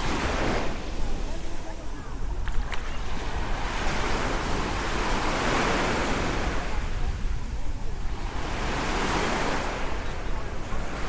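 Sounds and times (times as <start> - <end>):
small waves washing up shore: 0.0 - 11.0.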